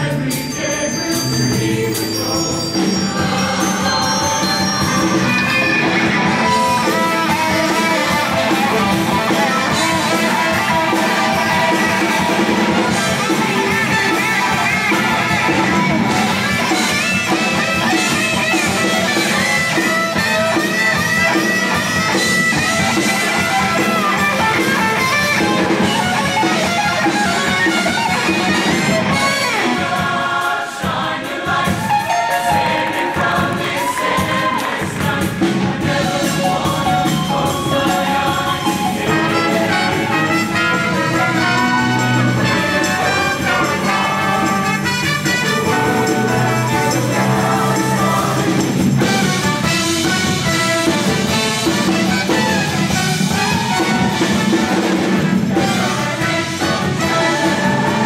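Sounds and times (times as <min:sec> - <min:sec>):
choir singing: 0:00.0 - 0:58.0
drums: 0:00.0 - 0:58.0
guitar: 0:00.0 - 0:58.0.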